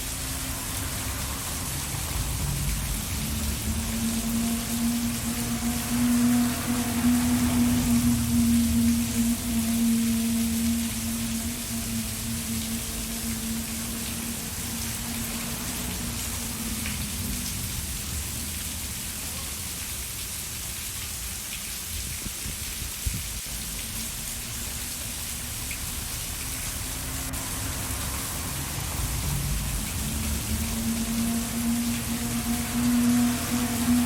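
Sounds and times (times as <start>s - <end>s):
low rumble: 0.0s - 19.0s, 23.8s - 34.0s
rain falling: 0.0s - 34.0s.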